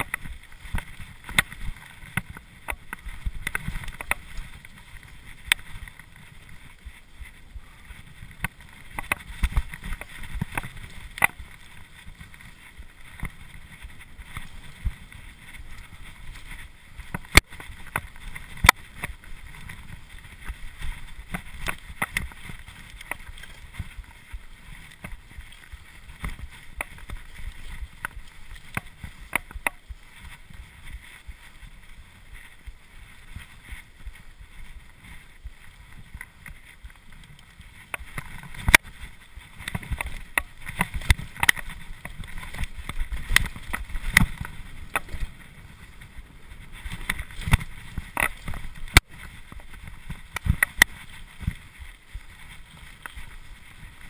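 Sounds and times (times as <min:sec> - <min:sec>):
bike clicks and rattles: 0:00.0 - 0:54.0
bike tyres rumbling on dirt: 0:00.0 - 0:54.0.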